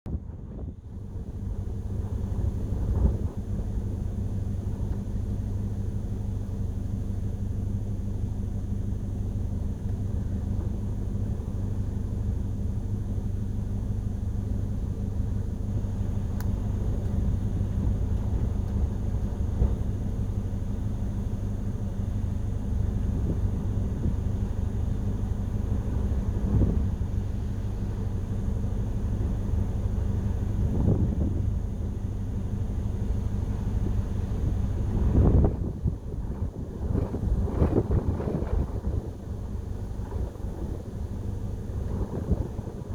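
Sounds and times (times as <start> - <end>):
strong wind buffeting microphone: 0.0 - 42.9.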